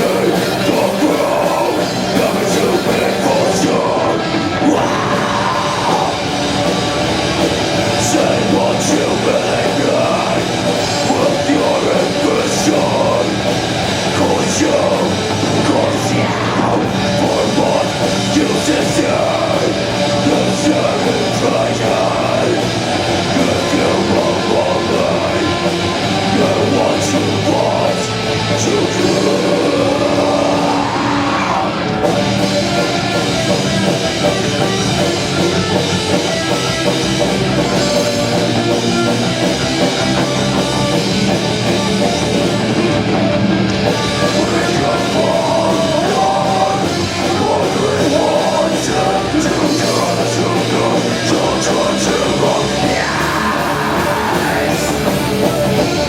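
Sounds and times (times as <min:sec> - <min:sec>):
live metal band playing: 0:00.0 - 0:56.0.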